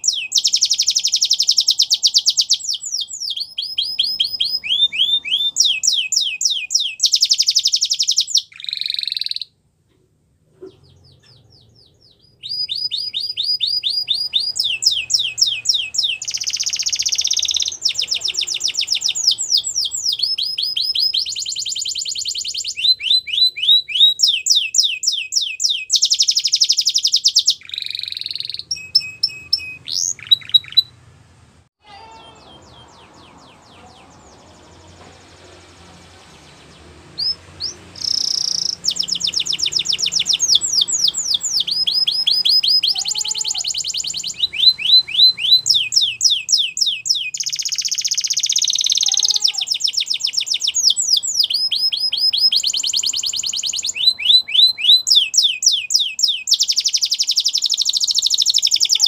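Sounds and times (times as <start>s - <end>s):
canary singing trills: 0.0s - 9.6s, 10.6s - 31.0s, 31.8s - 59.0s.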